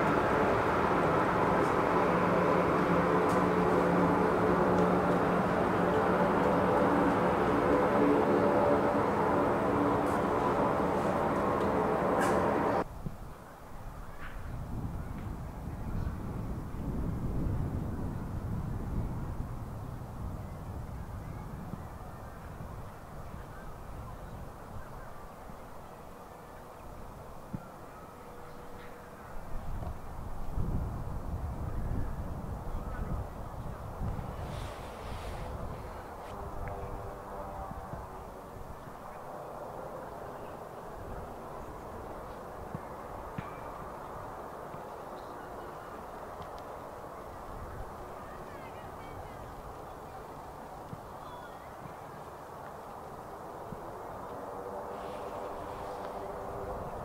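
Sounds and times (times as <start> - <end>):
turboprop engines rumbling hiss: 0.0 - 13.9, 14.6 - 57.0.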